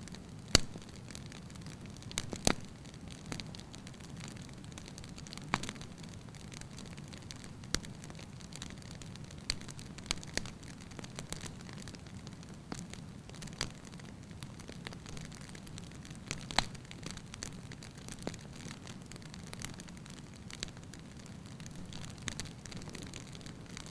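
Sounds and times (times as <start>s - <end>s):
fire popping and crackling: 0.0s - 23.9s
fire rumbling: 0.0s - 23.9s.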